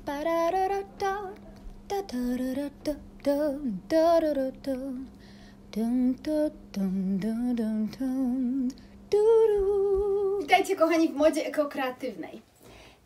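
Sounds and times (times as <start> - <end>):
woman singing slow melody: 0.0 - 10.5.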